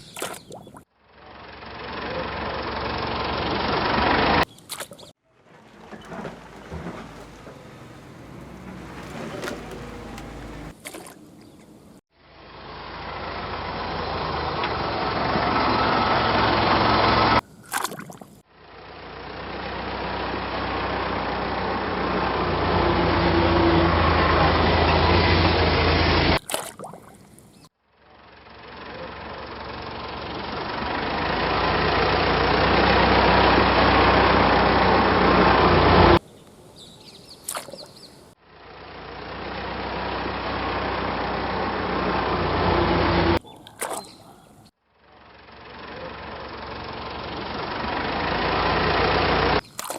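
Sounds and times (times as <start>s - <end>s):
engine-like running sound: 0.9s - 4.5s, 5.2s - 10.8s, 12.1s - 17.4s, 18.5s - 26.4s, 27.8s - 36.2s, 38.2s - 43.4s, 44.3s - 49.7s.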